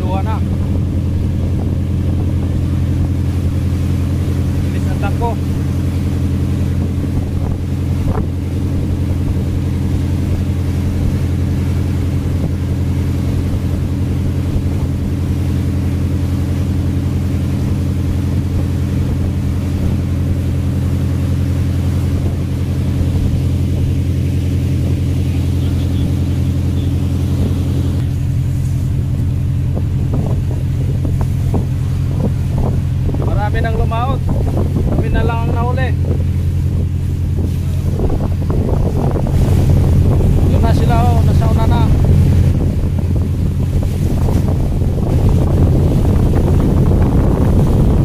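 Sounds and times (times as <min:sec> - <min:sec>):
boat engine droning: 0:00.0 - 0:48.0
rush of wind and water: 0:00.0 - 0:48.0.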